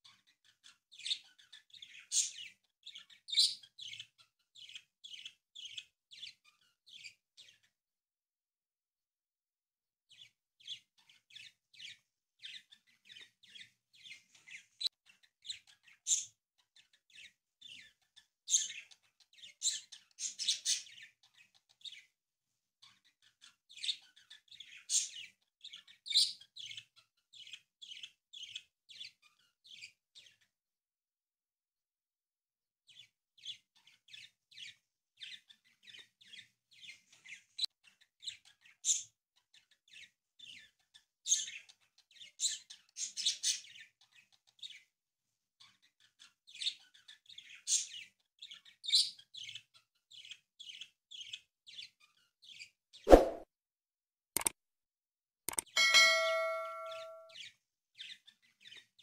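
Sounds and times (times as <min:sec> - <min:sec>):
small birds chirping: 0:00.0 - 0:07.8, 0:10.1 - 0:22.2, 0:22.8 - 0:30.6, 0:32.8 - 0:45.0, 0:45.6 - 0:53.4, 0:55.5 - 0:59.0.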